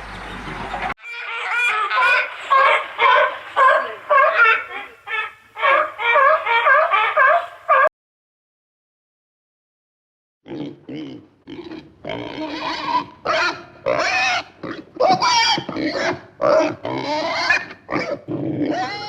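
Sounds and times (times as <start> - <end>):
pitched animal calls: 1.0 - 7.9, 10.6 - 19.0.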